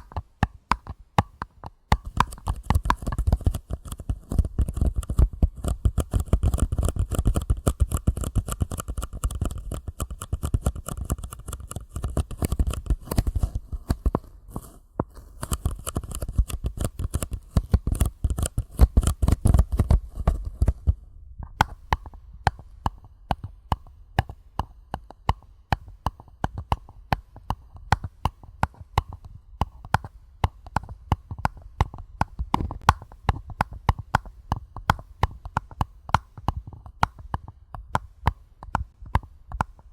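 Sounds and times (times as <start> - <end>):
fingertips tapping on paper cups: 0.0 - 39.9.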